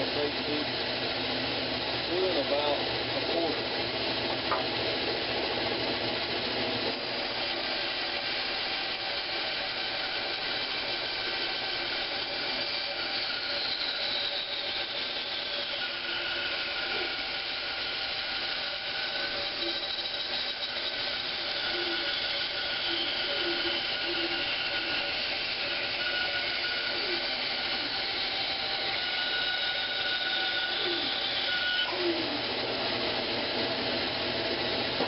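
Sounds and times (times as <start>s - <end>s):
power saw cutting wood: 0.0s - 35.0s.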